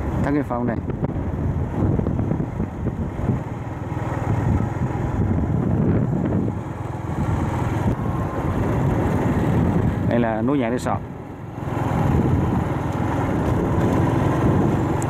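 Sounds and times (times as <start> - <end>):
vehicle engine and road noise: 0.0 - 15.0
wind rushing over microphone: 0.0 - 15.0.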